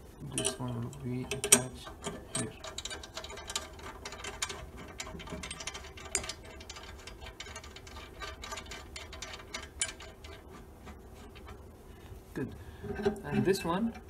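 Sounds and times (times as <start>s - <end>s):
metal clicking and scraping: 0.2s - 11.8s, 12.8s - 14.0s.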